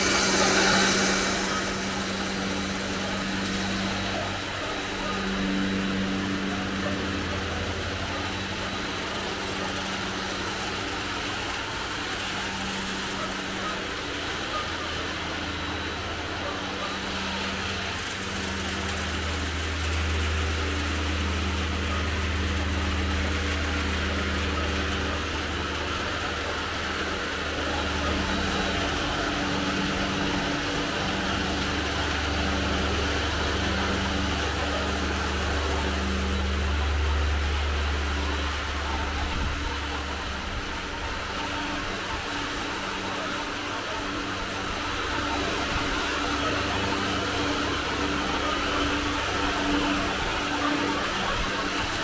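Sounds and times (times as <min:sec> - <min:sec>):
higher hum cutting in and out: 0:00.0 - 0:52.0
low machine drone: 0:00.0 - 0:52.0.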